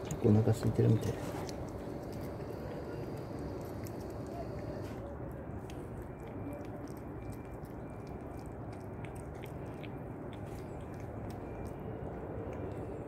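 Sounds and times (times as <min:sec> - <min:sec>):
kitten chewing food: 0:00.0 - 0:13.0
low background noise: 0:00.0 - 0:13.0.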